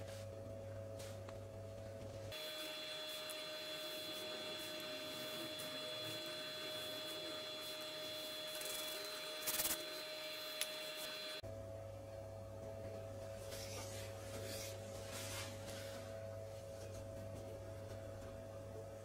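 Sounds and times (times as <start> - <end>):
electrical hum with high whine: 0.0 - 19.0.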